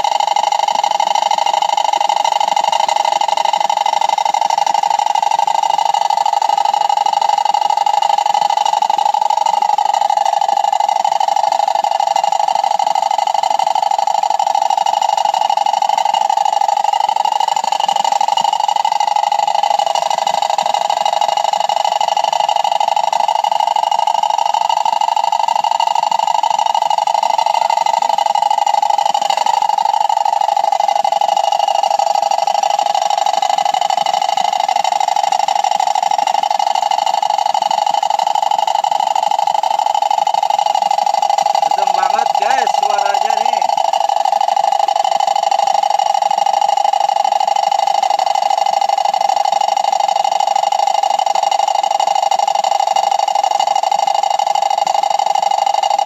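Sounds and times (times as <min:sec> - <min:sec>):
toy water wheel buzzing drone: 0:00.0 - 0:56.0.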